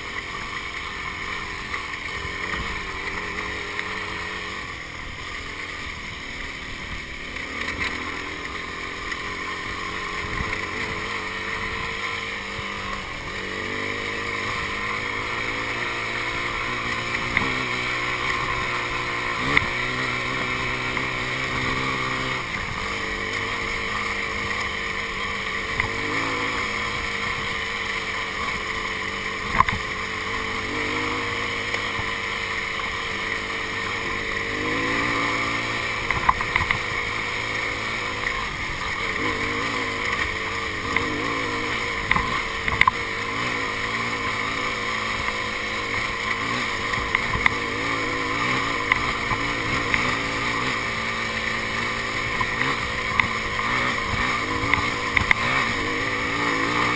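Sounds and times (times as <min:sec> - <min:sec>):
motorbike engine running under load: 0:00.0 - 0:56.9.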